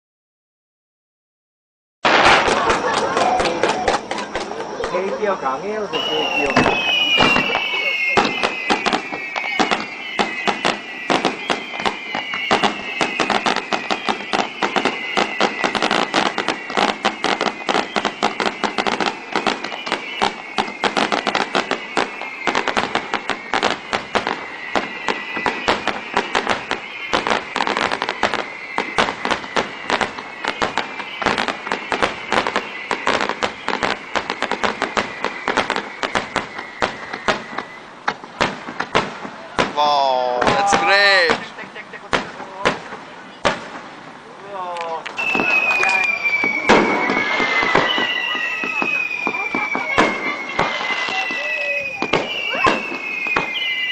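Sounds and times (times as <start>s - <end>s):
fireworks bangs and crackles: 2.0s - 53.9s
fireworks whistles: 2.0s - 53.9s.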